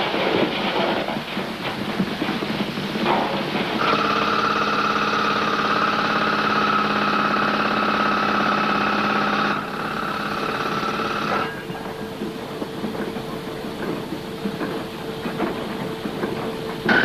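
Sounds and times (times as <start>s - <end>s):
mine machinery whining: 0.0s - 17.0s.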